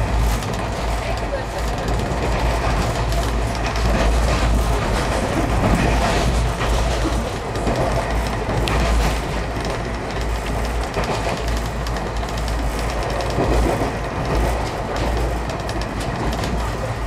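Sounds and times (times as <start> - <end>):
train rumble and air rush: 0.0 - 17.0
wheels clicking over rail joints: 0.0 - 17.0.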